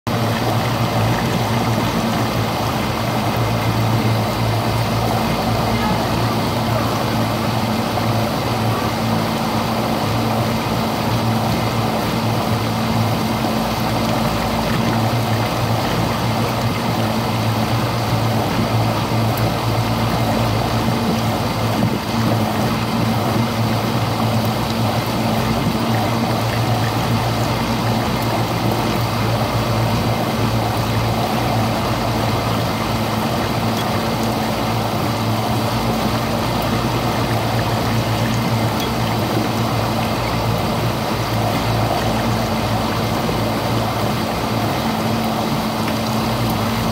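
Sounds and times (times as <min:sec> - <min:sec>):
dishwasher motor hum: 0:00.1 - 0:46.9
water rushing through pump: 0:00.1 - 0:46.9.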